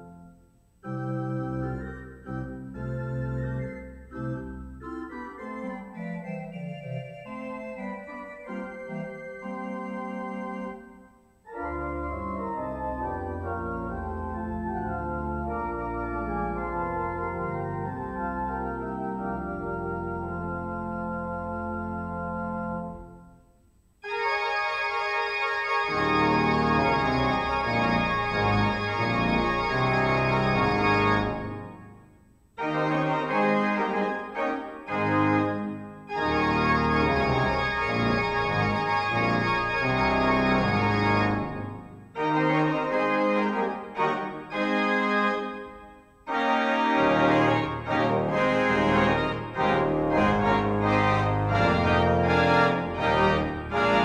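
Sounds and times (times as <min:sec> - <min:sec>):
organ pedal bass line: 0:00.0 - 0:23.4, 0:24.0 - 0:32.0, 0:32.6 - 0:54.0
church organ chords: 0:00.0 - 0:54.0.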